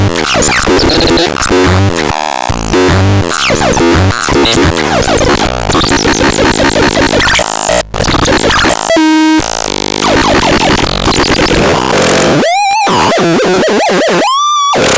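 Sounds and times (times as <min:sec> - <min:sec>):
glitchy synthesizer music: 0:00.0 - 0:14.9.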